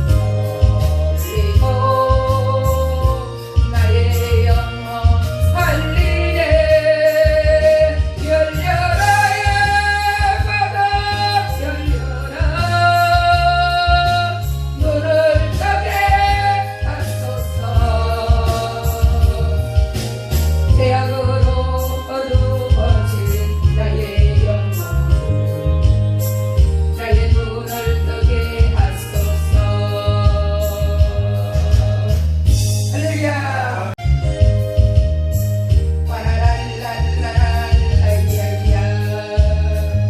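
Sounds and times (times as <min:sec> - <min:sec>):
accompaniment with bass beat: 0:00.0 - 0:40.0.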